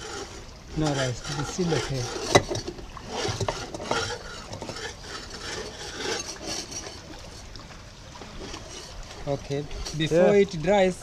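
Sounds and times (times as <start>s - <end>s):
metal shaft clinking and scraping: 0.0s - 7.5s, 8.4s - 10.2s.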